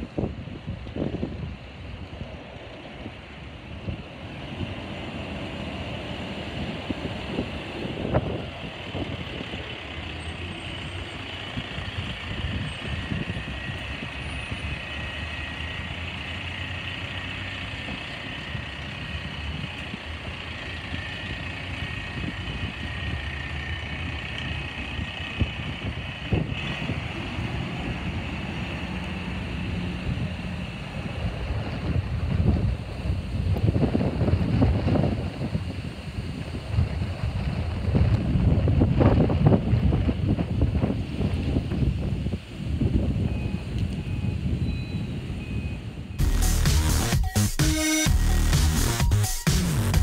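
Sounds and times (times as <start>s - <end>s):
truck diesel engine: 0.0s - 50.0s.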